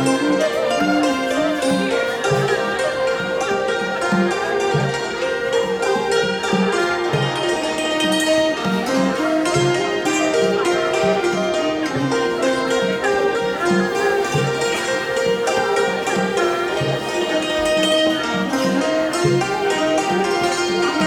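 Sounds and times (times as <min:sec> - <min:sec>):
bowed string line: 0:00.0 - 0:21.0
hammered dulcimer running notes: 0:00.0 - 0:21.0.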